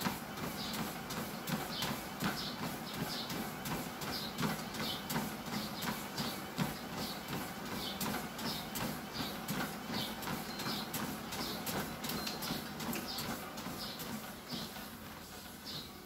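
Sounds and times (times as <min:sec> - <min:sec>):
running footsteps on treadmill: 0:00.0 - 0:16.0.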